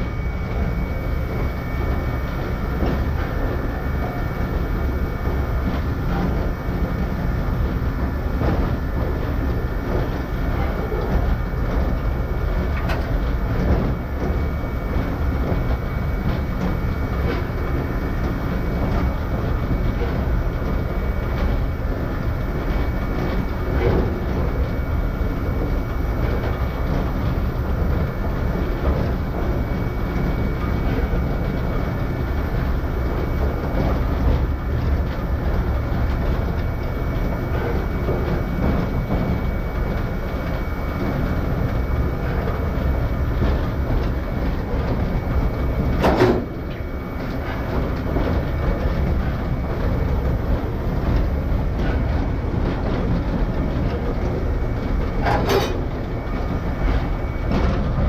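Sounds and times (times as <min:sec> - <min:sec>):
faint steady whine: 0:00.0 - 0:58.0
train wheels rumbling on rail: 0:00.0 - 0:58.0.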